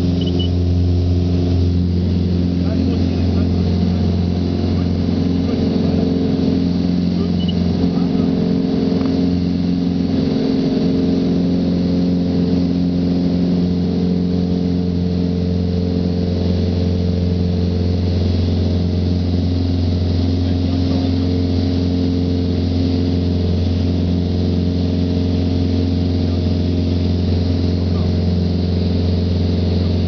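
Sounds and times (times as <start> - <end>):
airplane engine and propeller drone: 0.0 - 30.0.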